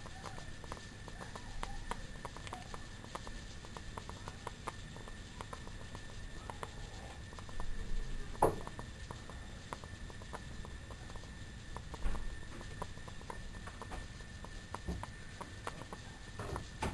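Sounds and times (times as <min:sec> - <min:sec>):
steam clicks and pops: 0:00.0 - 0:16.9
burner flame rumble: 0:00.1 - 0:16.9.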